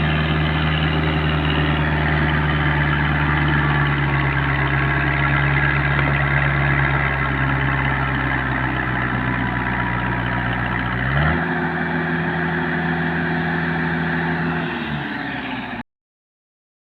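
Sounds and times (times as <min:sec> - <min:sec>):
diesel truck engine under load: 0:00.0 - 0:15.8.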